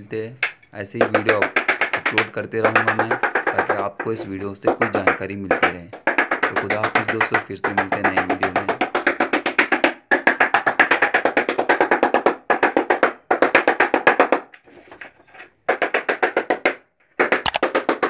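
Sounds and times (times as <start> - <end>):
rapid wood block drum beat: 0.4 - 14.6, 15.7 - 18.0.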